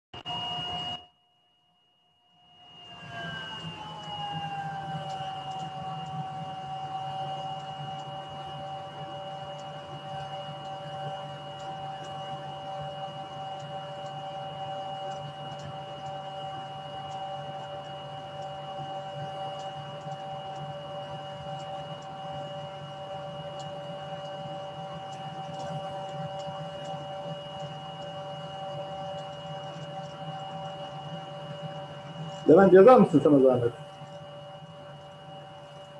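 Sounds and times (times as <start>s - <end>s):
electronic hum and whine: 0.2s - 35.9s.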